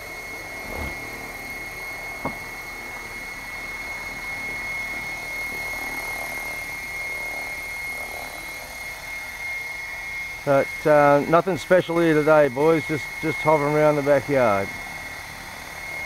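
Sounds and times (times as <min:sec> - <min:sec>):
rc helicopter rotor whir: 0:00.0 - 0:16.0.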